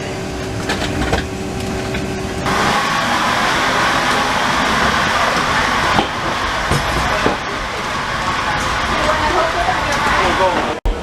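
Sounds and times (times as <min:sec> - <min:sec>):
airliner cabin air hum: 0:00.0 - 0:11.0.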